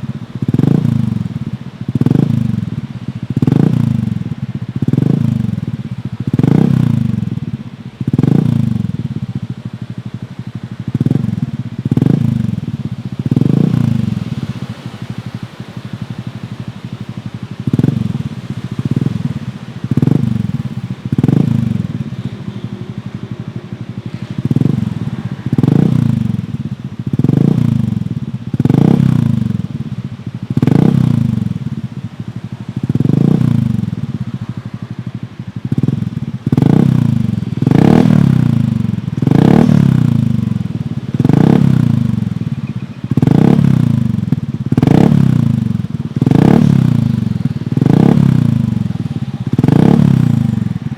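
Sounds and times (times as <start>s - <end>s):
scooter engine revving: 0.0s - 50.9s.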